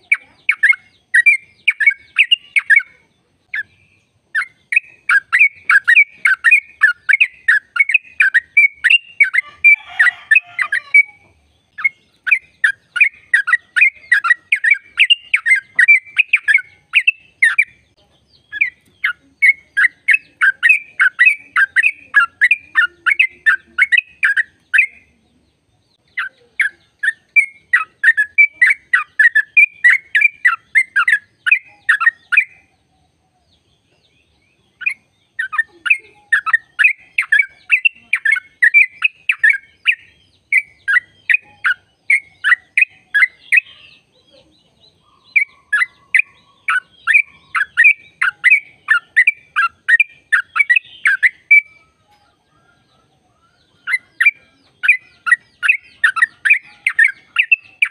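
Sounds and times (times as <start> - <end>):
bird singing rapid chattering notes: 0.0 - 57.9.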